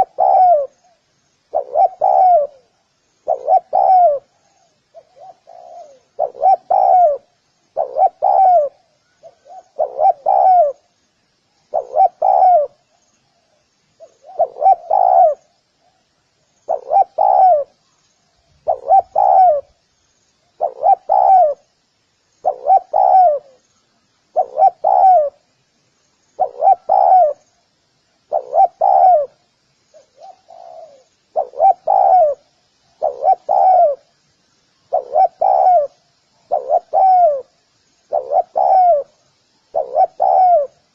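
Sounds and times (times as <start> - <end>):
dove cooing: 0.0 - 10.9, 11.7 - 12.9, 14.0 - 16.0, 16.7 - 17.8, 18.6 - 19.8, 20.6 - 21.7, 22.4 - 23.6, 24.3 - 25.4, 26.4 - 27.4, 28.2 - 34.1, 34.9 - 40.9.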